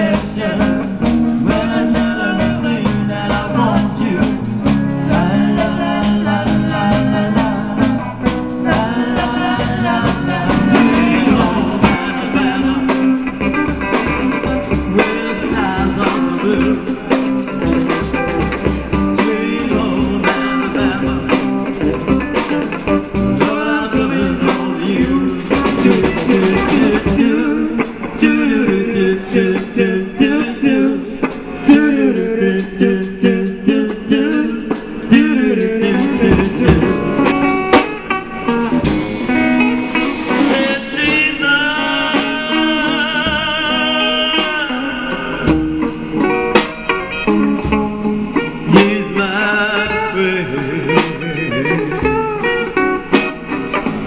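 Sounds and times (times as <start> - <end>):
steady percussive beat: 0.0 - 41.6, 45.4 - 54.0
bass: 0.0 - 54.0
guitar: 0.0 - 54.0.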